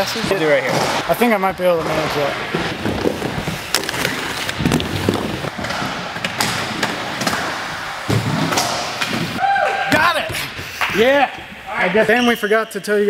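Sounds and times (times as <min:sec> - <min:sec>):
skate wheels rolling on wood: 0:00.0 - 0:10.8.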